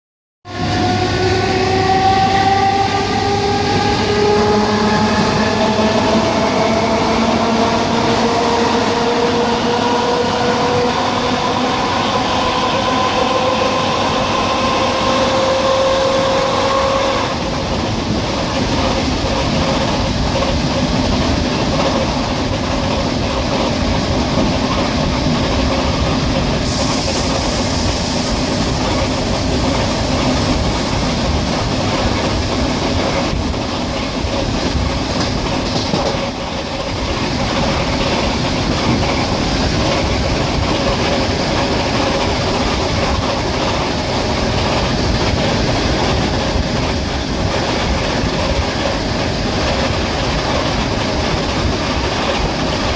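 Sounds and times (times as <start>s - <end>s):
train wheels rumbling on rails: 0.5s - 52.9s.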